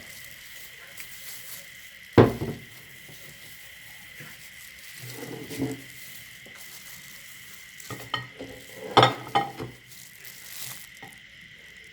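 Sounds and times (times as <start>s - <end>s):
snack crunching in grinder: 0.0s - 11.9s.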